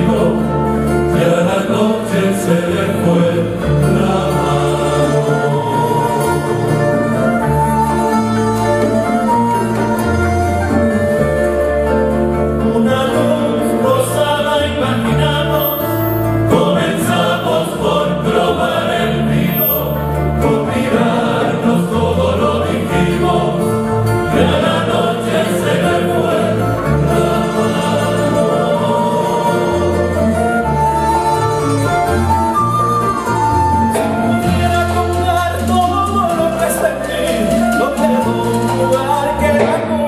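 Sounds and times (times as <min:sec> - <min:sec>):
men's choir singing: 0:00.0 - 0:11.9, 0:12.6 - 0:40.0
guitars and lutes playing: 0:00.0 - 0:40.0.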